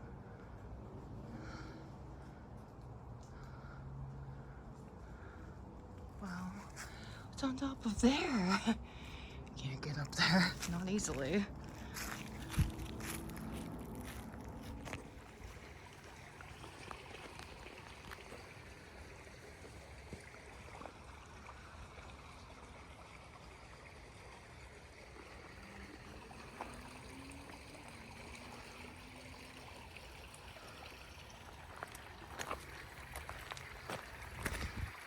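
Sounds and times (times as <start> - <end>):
creek water trickling: 0.0 - 35.0.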